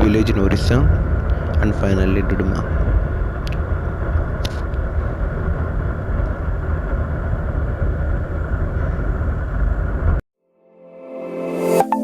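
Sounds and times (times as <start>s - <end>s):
vehicle road noise rumble: 0.0s - 10.2s.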